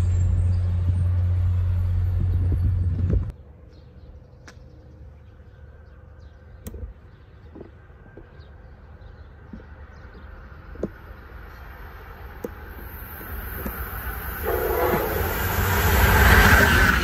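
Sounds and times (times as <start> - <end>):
low rumble of wind or traffic: 0.0 - 17.0.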